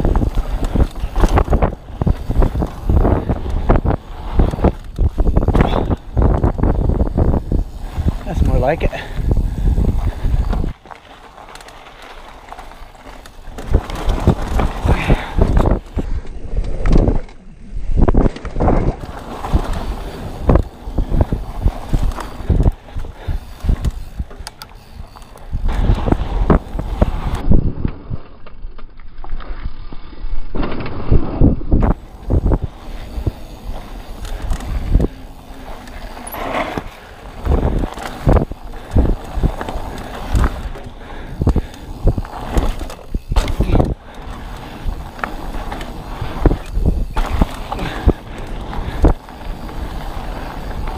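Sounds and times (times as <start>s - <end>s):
bike knocks and rattles: 0.0s - 17.4s, 18.0s - 29.2s, 30.5s - 50.9s
bike tyres rumbling over gravel: 0.0s - 50.9s.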